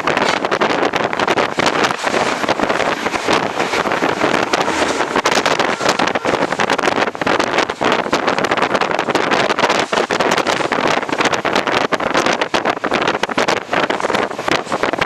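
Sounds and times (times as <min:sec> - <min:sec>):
wind and rail noise: 0:00.0 - 0:15.0.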